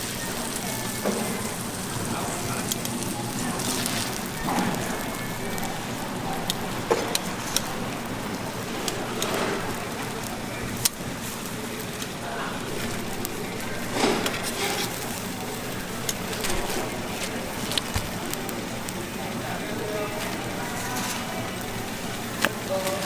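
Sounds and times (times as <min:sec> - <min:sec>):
food sizzling on a griddle: 0:00.0 - 0:23.0.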